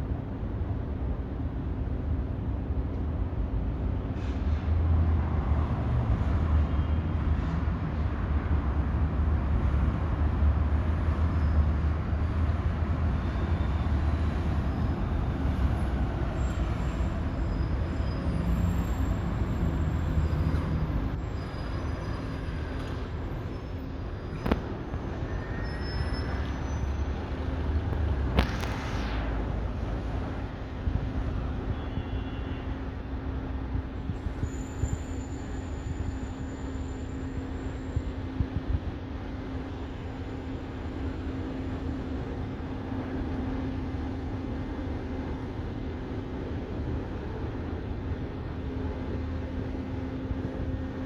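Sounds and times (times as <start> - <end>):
low rumbling background noise: 0.0 - 51.0.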